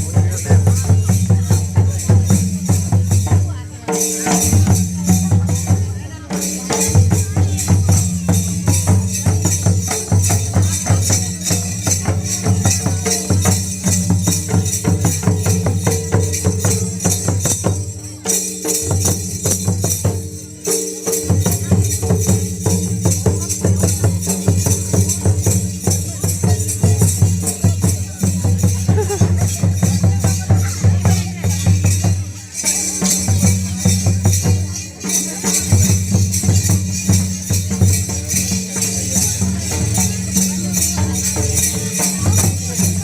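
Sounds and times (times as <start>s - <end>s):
drums beating fast rhythm: 0.0s - 43.0s
jingling percussion: 0.0s - 43.0s.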